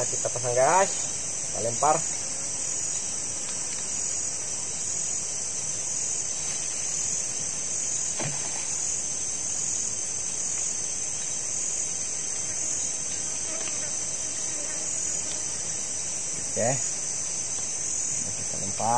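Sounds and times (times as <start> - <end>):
insects chorus: 0.0 - 18.9.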